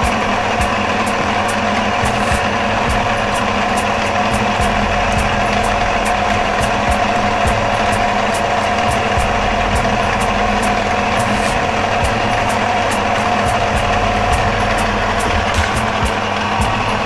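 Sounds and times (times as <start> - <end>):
pasta maker motor humming: 0.0 - 17.0.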